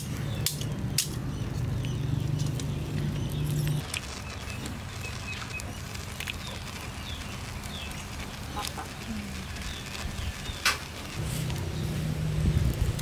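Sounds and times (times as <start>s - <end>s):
sharp crackles: 0.0s - 13.0s
snails sizzling on a grill: 0.0s - 13.0s.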